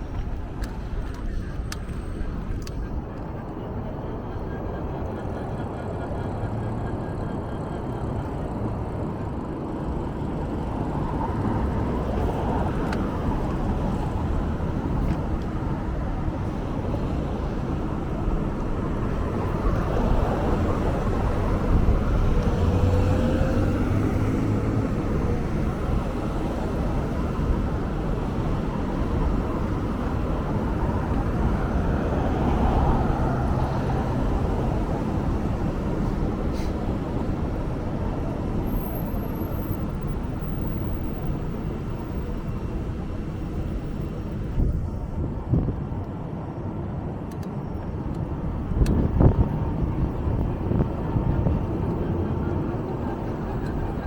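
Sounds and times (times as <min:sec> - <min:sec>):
vehicle driving with road noise: 0:00.0 - 0:54.0.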